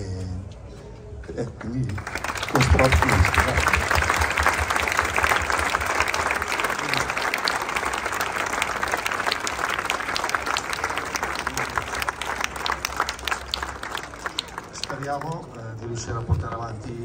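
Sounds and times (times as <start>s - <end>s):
crowd applauding: 1.5s - 15.6s.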